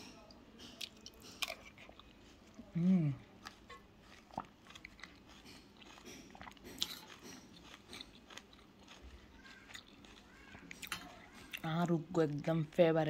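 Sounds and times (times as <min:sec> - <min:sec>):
wet mouth sounds eating: 0:00.7 - 0:11.7.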